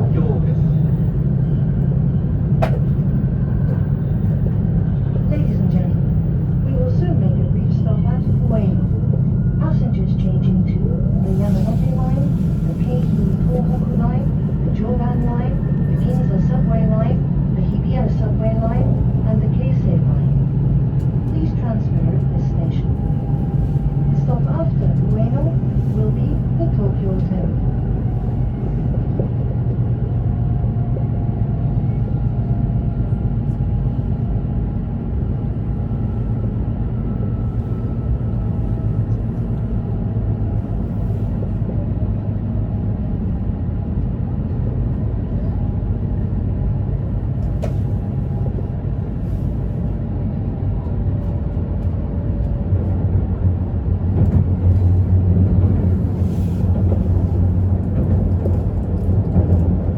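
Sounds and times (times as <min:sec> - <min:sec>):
train cabin rumble: 0:00.0 - 0:59.9.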